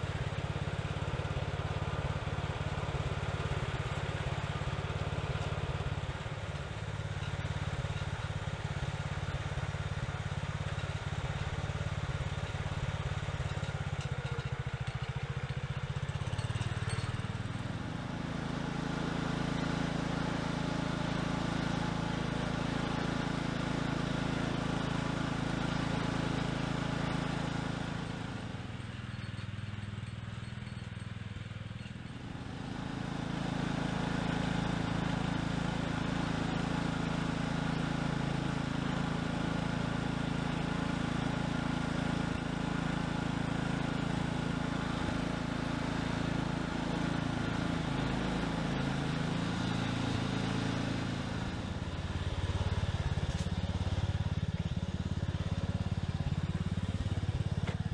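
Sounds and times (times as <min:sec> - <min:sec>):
garden tractor engine running: 0:00.0 - 0:57.9.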